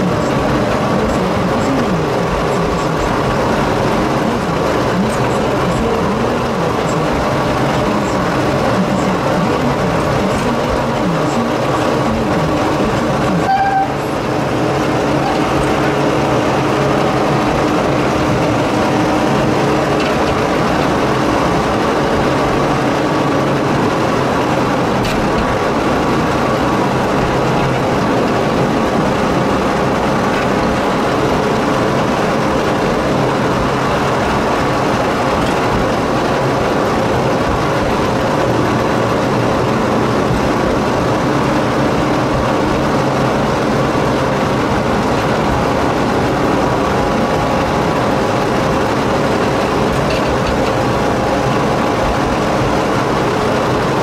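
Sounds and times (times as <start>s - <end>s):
diesel locomotive engine drone: 0.0s - 54.0s
wheel and rail noise: 0.0s - 54.0s.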